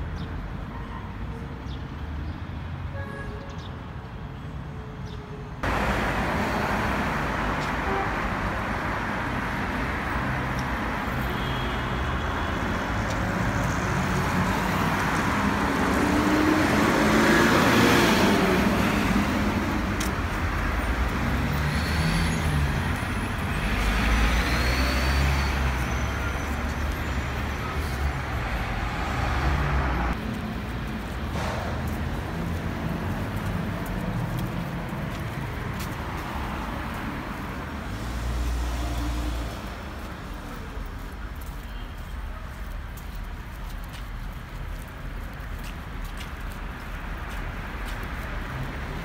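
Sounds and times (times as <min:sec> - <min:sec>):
vehicles passing on street: 0:00.0 - 0:49.0.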